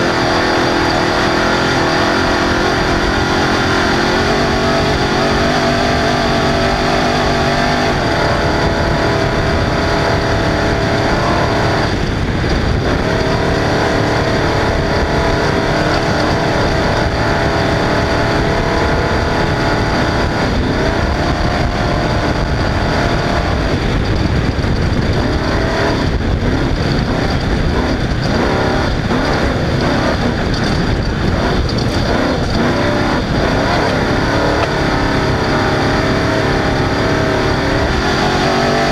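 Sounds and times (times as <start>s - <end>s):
race car engine running hard: 0.0s - 38.9s
steady noisy rush: 0.0s - 38.9s.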